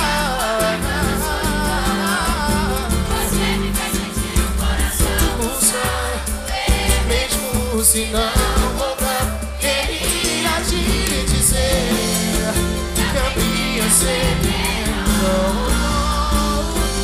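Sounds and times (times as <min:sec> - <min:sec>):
live band playing: 0:00.0 - 0:17.0
people singing into microphones: 0:00.0 - 0:17.0
percussion: 0:00.0 - 0:17.0.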